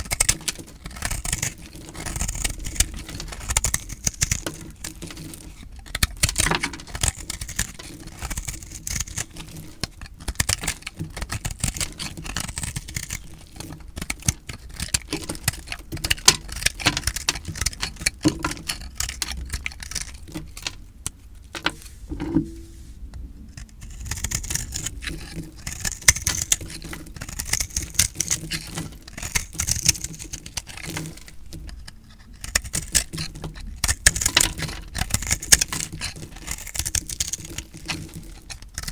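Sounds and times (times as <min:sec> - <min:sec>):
blade cutting crunchy soap: 0:00.0 - 0:22.7, 0:23.6 - 0:38.9.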